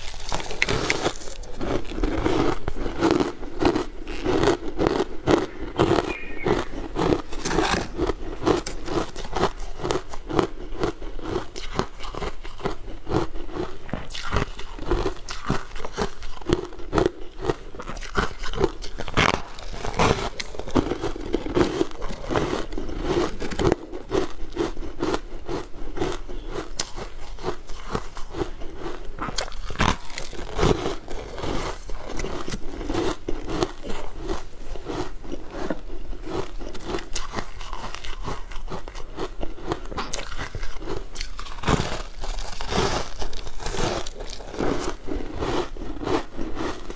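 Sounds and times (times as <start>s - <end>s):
crunching frozen food: 0.0s - 46.9s.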